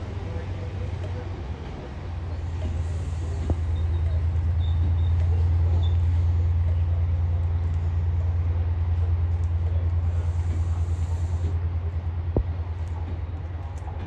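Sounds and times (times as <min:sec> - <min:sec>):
diesel train drone: 0:00.0 - 0:14.0.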